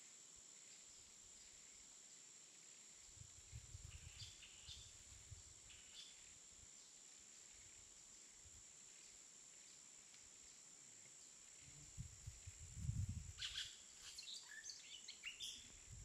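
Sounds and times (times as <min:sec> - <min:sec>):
faint high-pitched hiss: 0:00.0 - 0:16.0.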